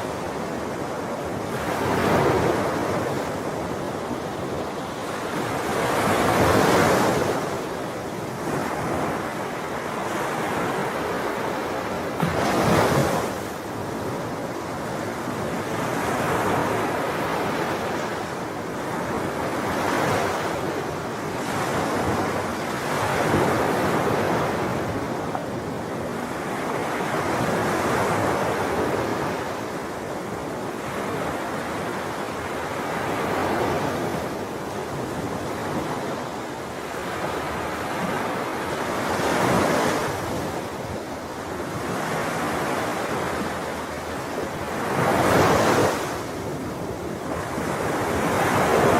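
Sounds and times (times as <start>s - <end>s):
sea waves washing onto shore: 0.0s - 48.9s.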